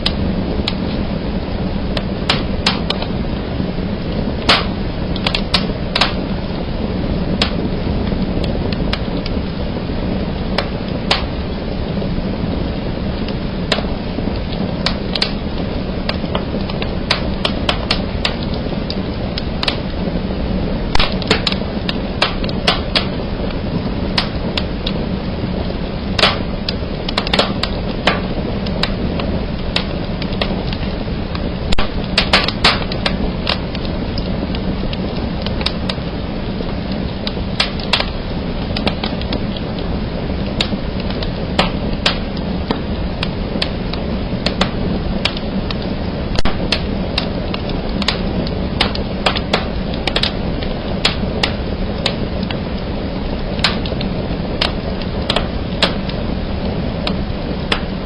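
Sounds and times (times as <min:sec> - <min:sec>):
fire cracking and snapping: 0:00.0 - 0:58.0
flames rushing in fireplace: 0:00.0 - 0:58.0.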